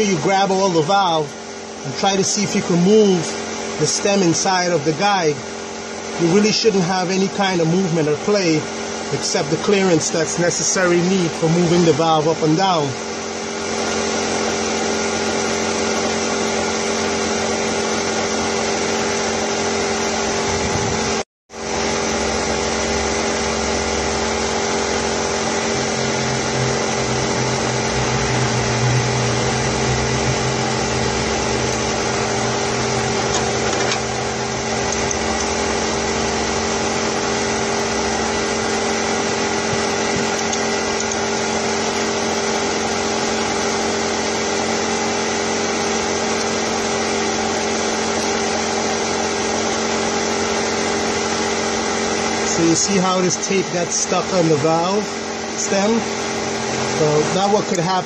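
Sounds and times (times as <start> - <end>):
machine droning: 0.0 - 58.0.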